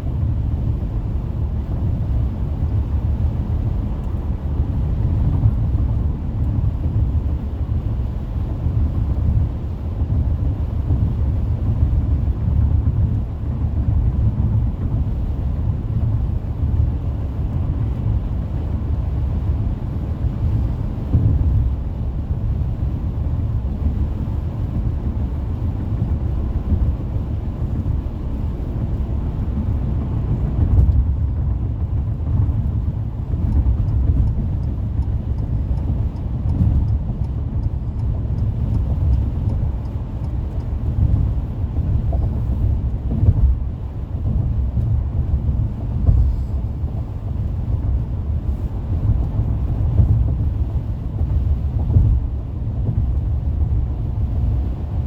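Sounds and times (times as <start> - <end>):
car road and tyre rumble: 0.0 - 55.0.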